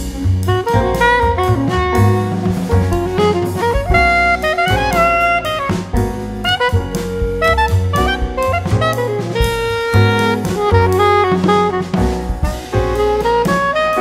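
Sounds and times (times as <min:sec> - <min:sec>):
instrumental music with drums: 0:00.0 - 0:14.0.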